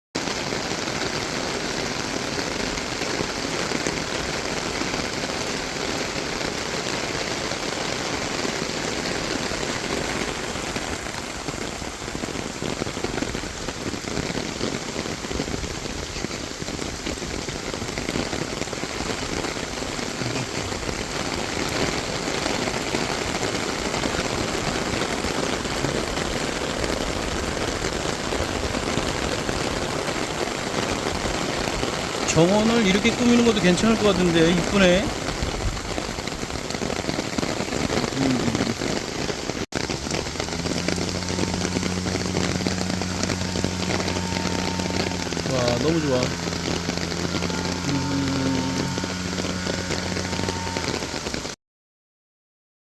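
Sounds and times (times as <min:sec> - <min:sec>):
rain falling: 0:00.2 - 0:51.6.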